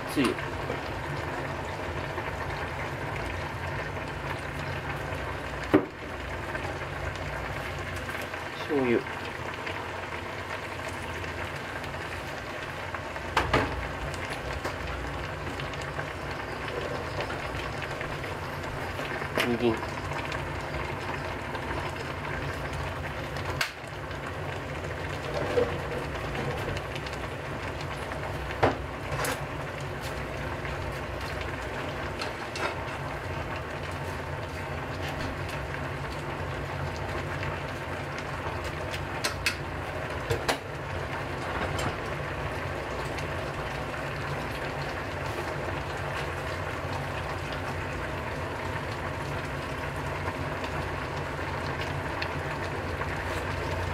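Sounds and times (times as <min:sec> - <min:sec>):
broth bubbling: 0:00.0 - 0:53.9.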